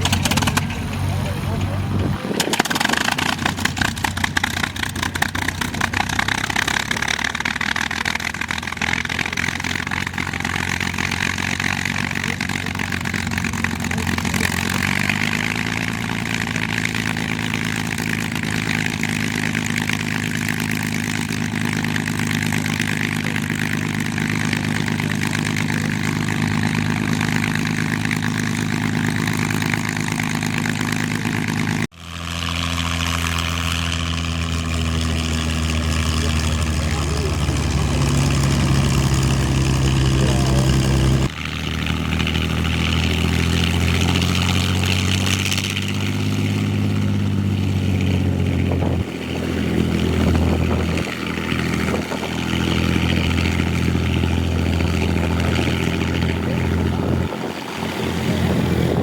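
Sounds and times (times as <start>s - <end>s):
aircraft piston engine running: 0.0s - 59.0s.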